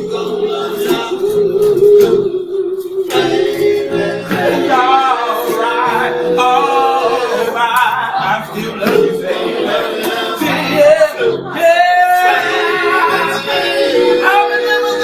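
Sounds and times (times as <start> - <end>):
male vocal group singing harmony: 0.0 - 15.0.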